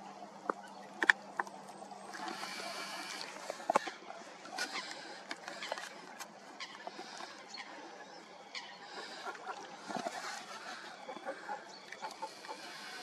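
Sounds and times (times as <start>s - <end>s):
faint steady background noise: 0.0s - 13.0s
waterbirds chirping and squeaking: 0.0s - 13.0s.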